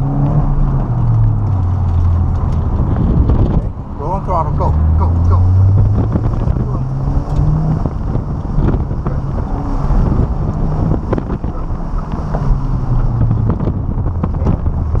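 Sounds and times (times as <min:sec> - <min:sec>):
car engine accelerating: 0:00.0 - 0:15.0
wind noise: 0:00.0 - 0:15.0.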